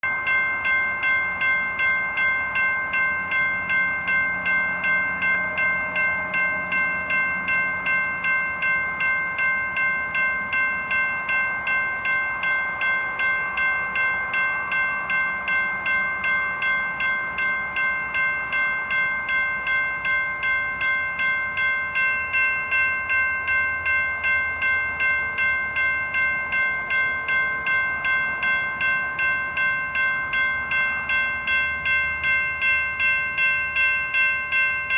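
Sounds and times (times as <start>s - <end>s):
railroad crossing bell ringing: 0.0s - 34.9s.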